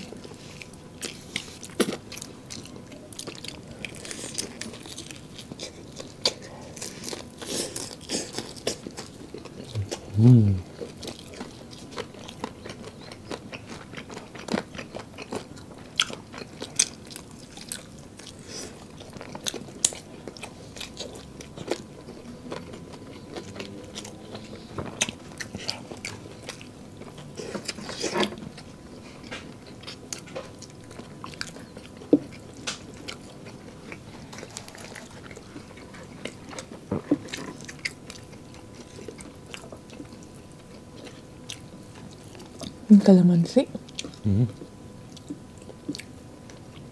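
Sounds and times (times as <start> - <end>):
people chewing crispy fried chicken: 0.0 - 42.9, 43.7 - 46.9.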